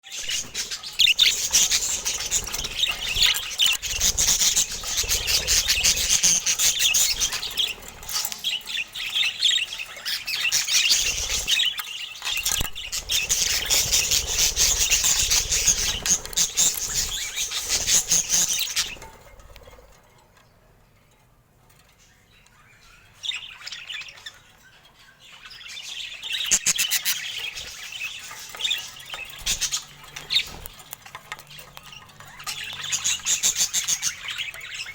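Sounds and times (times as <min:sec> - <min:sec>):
budgies chattering and chirping: 0:00.0 - 0:20.0, 0:21.8 - 0:34.9.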